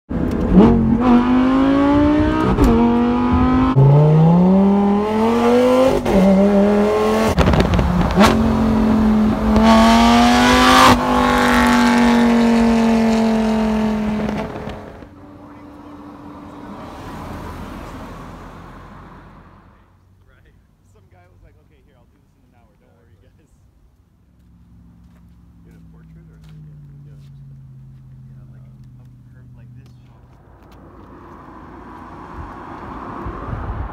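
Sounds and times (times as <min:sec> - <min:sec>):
sports car engine accelerating: 0:00.1 - 0:19.8, 0:24.4 - 0:33.9.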